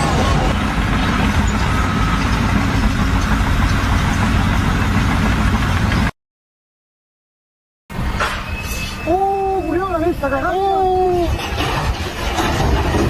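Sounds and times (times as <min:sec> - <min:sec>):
engine rumbling: 0:00.0 - 0:06.1, 0:07.9 - 0:13.0.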